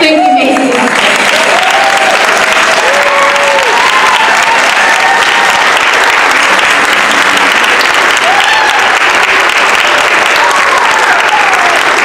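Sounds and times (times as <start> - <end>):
audience applauding: 0.3 - 12.0.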